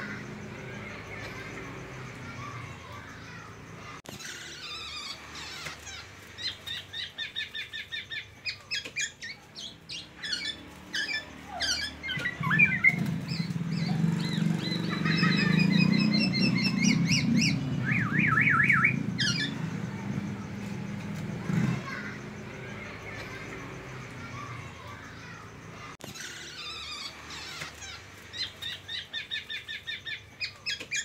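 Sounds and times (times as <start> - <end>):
bird singing trills: 0.0 - 31.0.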